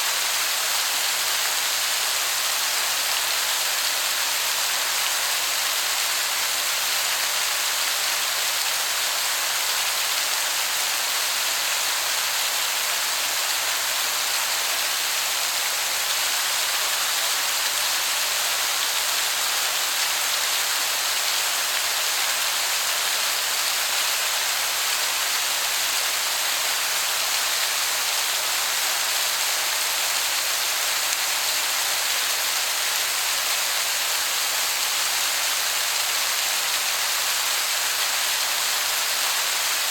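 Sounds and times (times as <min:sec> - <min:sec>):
distant waterfall hiss: 0:00.0 - 0:39.9.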